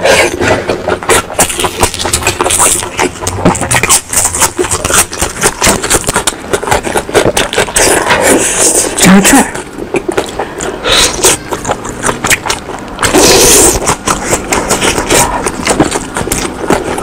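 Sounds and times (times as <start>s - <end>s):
chewing with wet clicks and smacks: 0.0s - 17.0s.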